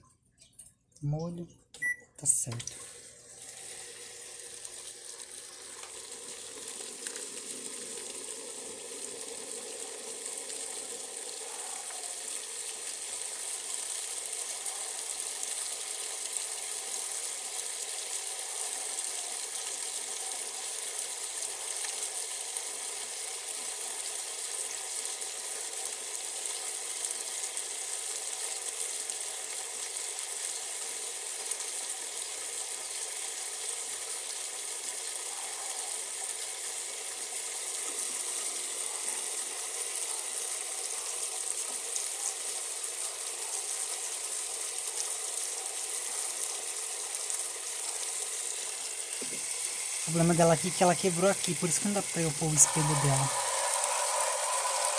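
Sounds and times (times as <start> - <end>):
washing machine filling with water: 2.6 - 54.9.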